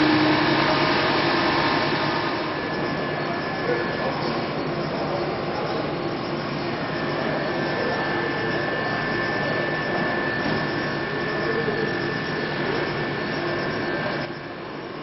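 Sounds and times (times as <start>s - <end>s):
metal cutting noise: 0.0s - 15.0s
milling spindle high whine: 0.0s - 15.0s.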